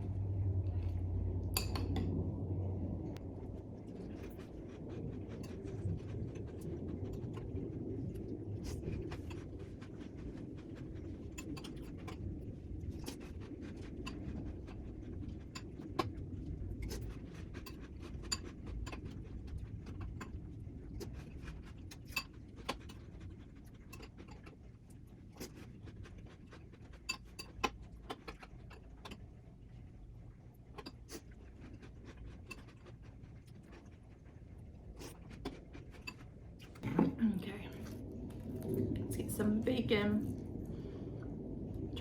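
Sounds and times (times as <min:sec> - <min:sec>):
chewing and handling rumble: 0:00.0 - 0:42.0.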